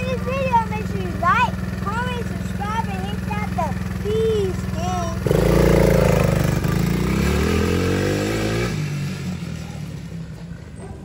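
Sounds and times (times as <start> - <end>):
quad engine revving: 0.0 - 10.8.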